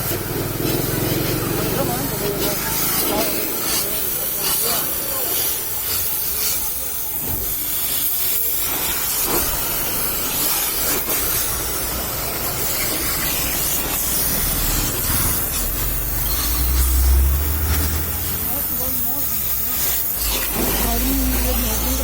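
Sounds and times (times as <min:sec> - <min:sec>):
pressure washer spray hissing: 0:00.0 - 0:22.0.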